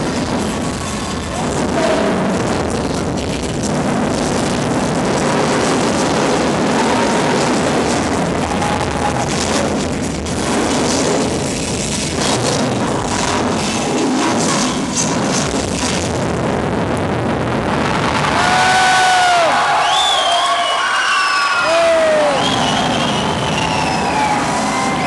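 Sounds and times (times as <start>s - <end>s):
loud music over sound system: 0.0s - 19.8s, 21.6s - 25.0s.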